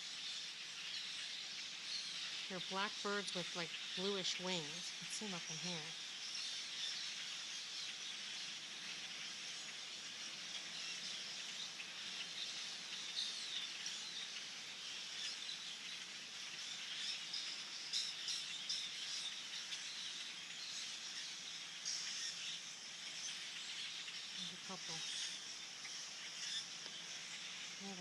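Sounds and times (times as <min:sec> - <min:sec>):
flock of blackbirds chattering: 0:00.0 - 0:28.0.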